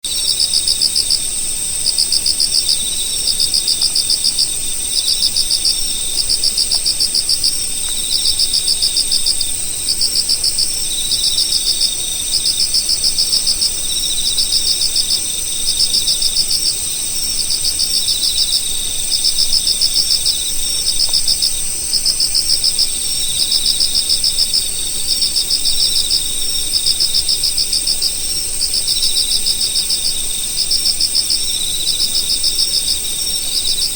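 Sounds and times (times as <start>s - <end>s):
insects high-pitched trill: 0.1s - 33.9s
insects rapid chirping pulses: 0.1s - 33.9s.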